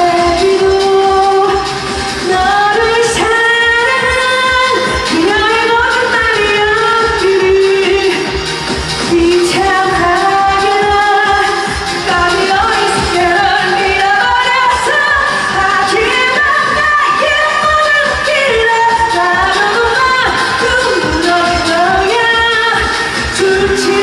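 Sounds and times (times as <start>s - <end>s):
amplified backing track with beat: 0.0s - 24.0s
woman singing pop song: 0.0s - 24.0s.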